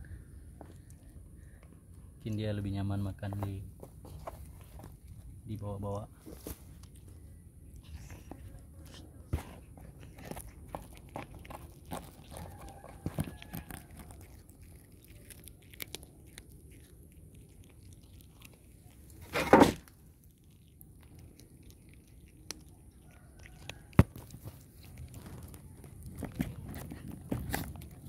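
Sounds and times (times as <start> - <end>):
cat chewing wetly: 0.1 - 2.2, 4.2 - 6.0, 6.6 - 28.0.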